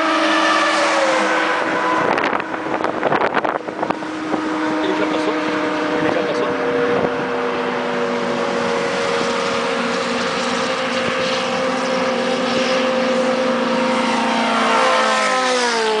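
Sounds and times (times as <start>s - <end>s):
motorcycle engine at high revs: 0.0s - 16.0s
wind rush: 0.8s - 16.0s.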